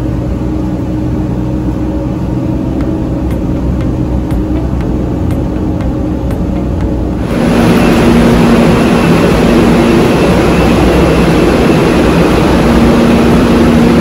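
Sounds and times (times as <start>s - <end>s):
road and wind noise: 0.0s - 14.0s
vehicle engine drone: 0.0s - 14.0s.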